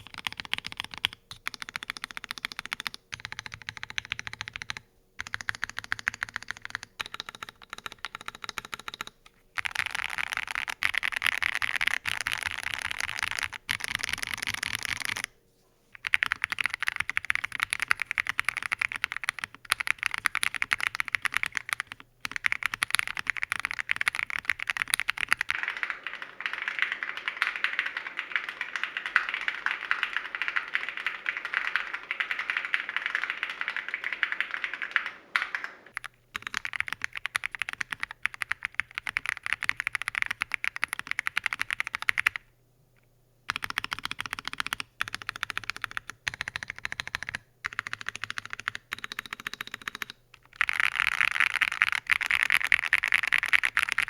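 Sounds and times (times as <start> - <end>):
typing on mechanical keyboard: 0.0 - 15.3, 16.0 - 42.5, 43.5 - 54.0.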